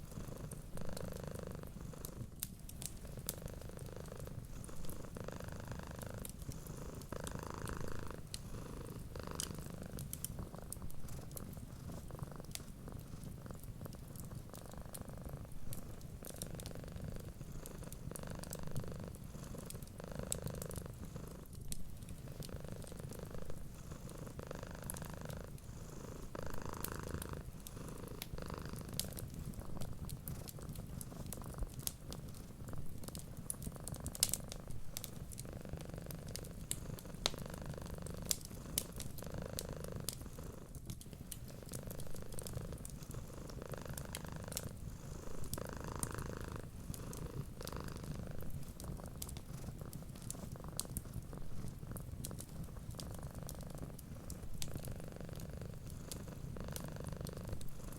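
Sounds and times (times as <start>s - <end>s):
cat purring: 0.0s - 57.9s
fireplace fire crackling: 0.0s - 57.9s.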